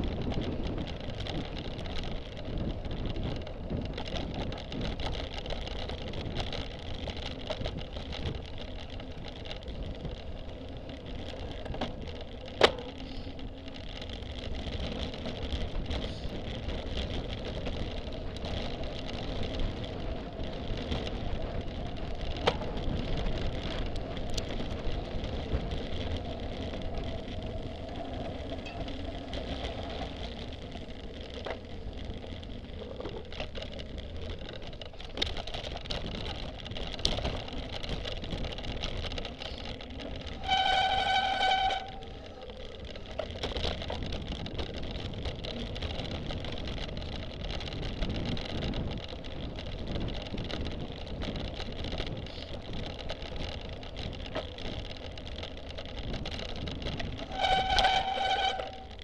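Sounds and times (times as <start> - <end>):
bike rattling: 0.0 - 59.0
bike tyres rumbling on dirt: 0.0 - 59.0
wind on the microphone: 0.0 - 59.0.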